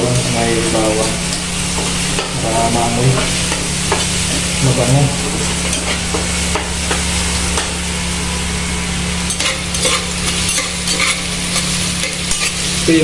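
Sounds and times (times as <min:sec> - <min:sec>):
garlic sizzling in oil: 0:00.0 - 0:13.0
utensil scraping pan: 0:00.9 - 0:07.8, 0:09.2 - 0:12.8.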